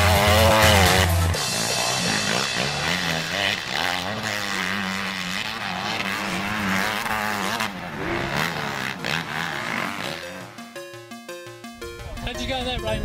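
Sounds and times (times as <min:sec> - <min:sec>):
motocross bike engine revving: 0:00.0 - 0:10.6.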